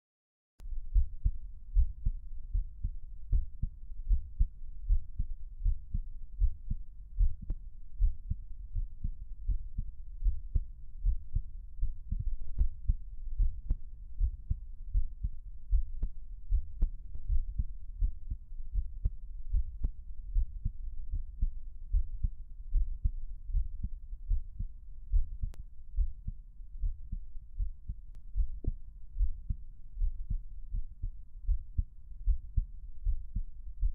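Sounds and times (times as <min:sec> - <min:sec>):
heart beating: 0:00.8 - 0:33.9.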